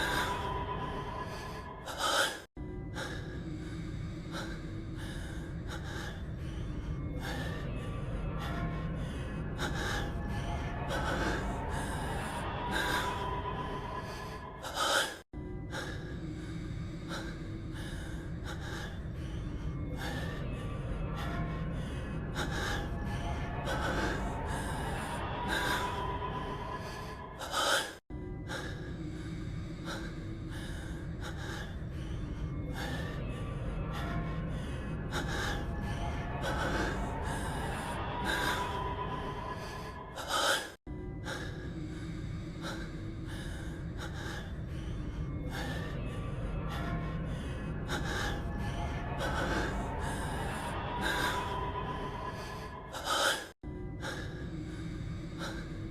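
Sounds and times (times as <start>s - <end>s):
background music: 0.0s - 55.9s.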